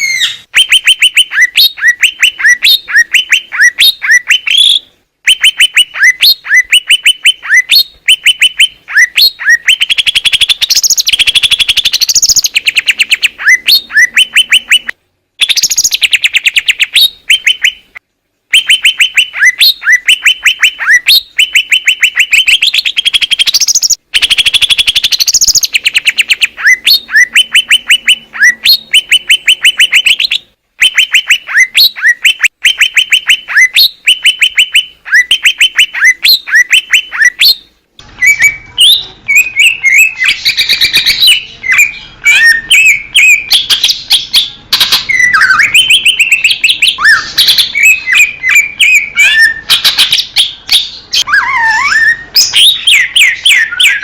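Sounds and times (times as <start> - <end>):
bird chirping and warbling: 0.0 - 54.0.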